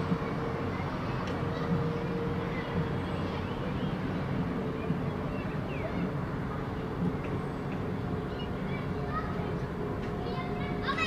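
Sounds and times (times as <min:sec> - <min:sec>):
background murmur: 0:00.0 - 0:11.0
low engine hum: 0:00.0 - 0:11.0.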